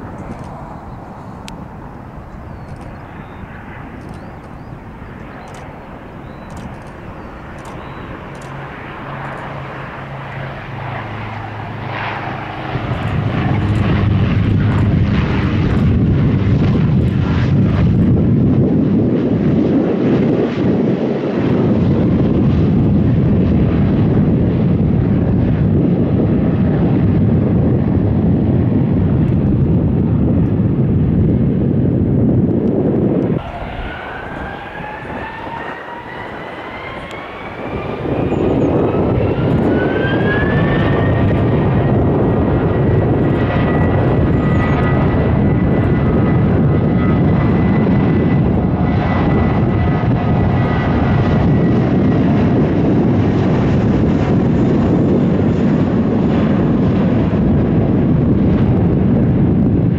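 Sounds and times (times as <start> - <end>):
large aircraft engines: 0.0 - 59.9.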